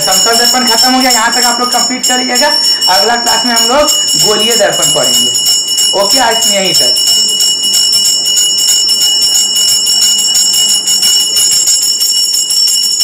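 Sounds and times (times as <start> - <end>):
high-pitched ringing whine: 0.0 - 13.0.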